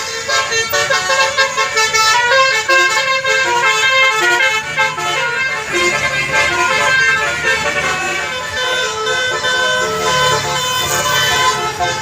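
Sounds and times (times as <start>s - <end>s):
bus air horn playing a tune: 0.0s - 12.0s.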